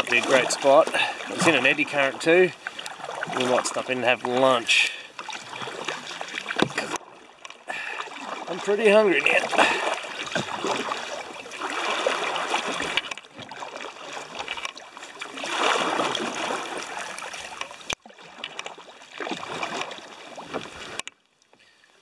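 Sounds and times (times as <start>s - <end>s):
paddle strokes splashing water: 0.0s - 22.0s.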